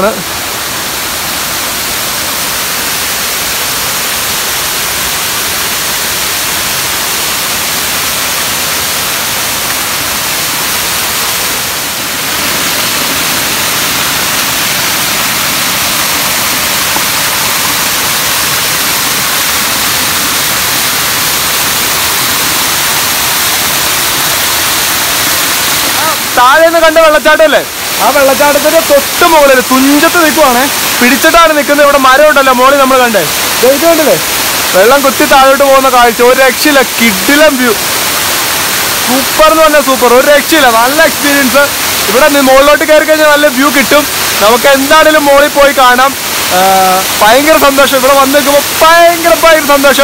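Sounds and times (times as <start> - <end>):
water rushing over rocks: 0.0 - 50.0.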